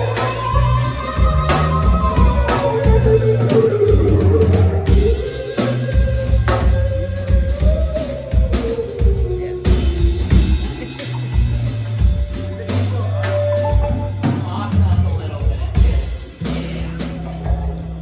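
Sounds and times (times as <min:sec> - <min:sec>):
live rock band: 0:00.0 - 0:18.0.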